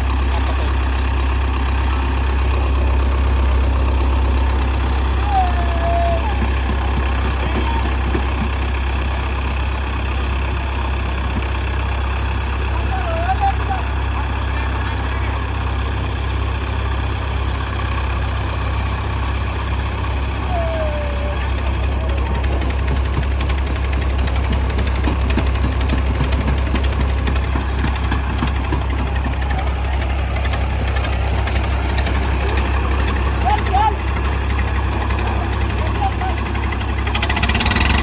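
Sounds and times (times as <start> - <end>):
diesel tractor engines droning: 0.0 - 38.0.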